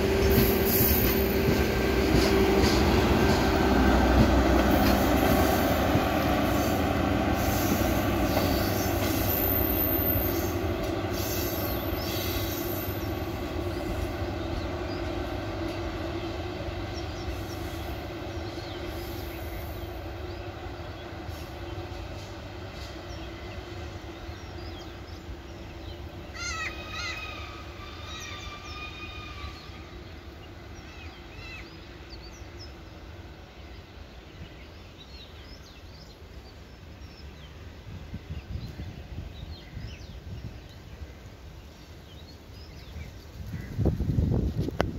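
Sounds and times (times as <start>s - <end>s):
birds chirping: 0.0s - 43.9s
train rumbling: 0.0s - 44.9s.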